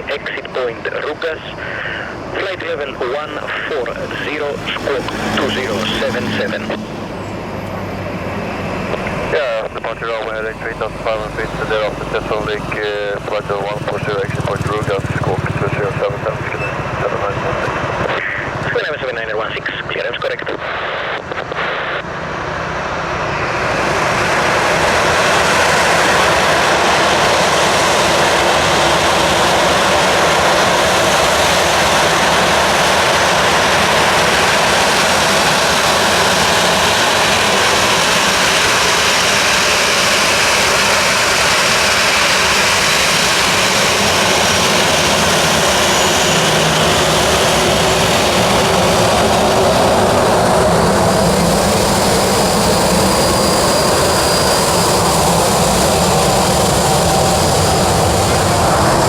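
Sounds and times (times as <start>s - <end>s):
jet engines running loud: 0.0s - 59.0s.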